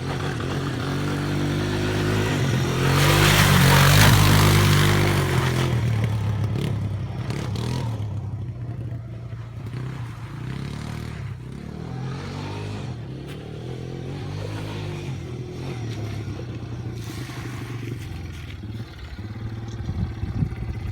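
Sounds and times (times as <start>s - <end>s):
quad bike engine running: 0.0s - 20.9s.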